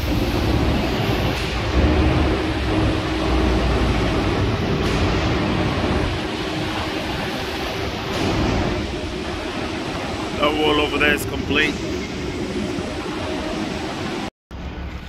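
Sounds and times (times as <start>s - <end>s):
construction machine hum: 0.0s - 15.0s.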